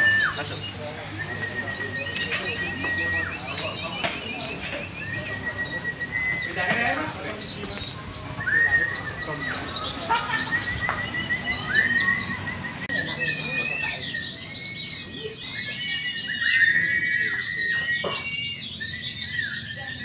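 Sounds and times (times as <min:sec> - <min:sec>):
chorus of small birds chirping: 0:00.0 - 0:20.0.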